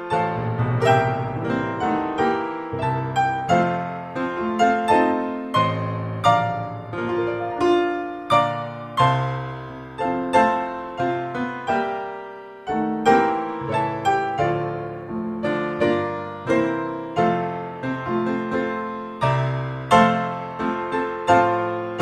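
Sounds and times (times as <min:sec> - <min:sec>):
solo piano chords and notes: 0:00.0 - 0:22.0.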